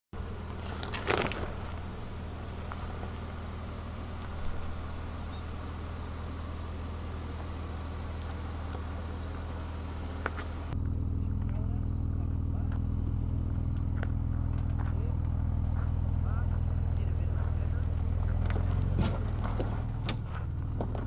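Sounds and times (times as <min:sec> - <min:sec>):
truck engine running at low revs: 0:00.2 - 0:21.0.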